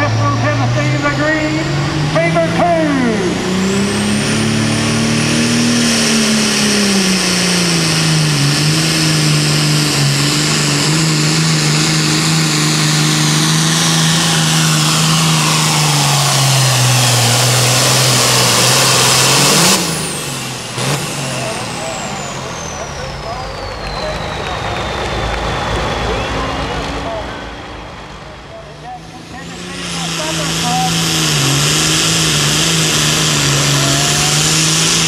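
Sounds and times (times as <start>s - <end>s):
diesel tractor engine running flat out: 0.0s - 35.0s.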